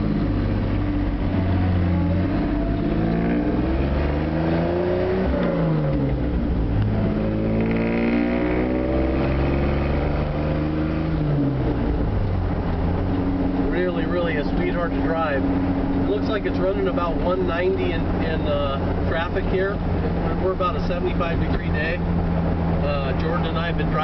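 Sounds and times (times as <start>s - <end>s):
truck engine accelerating: 0.0s - 24.0s.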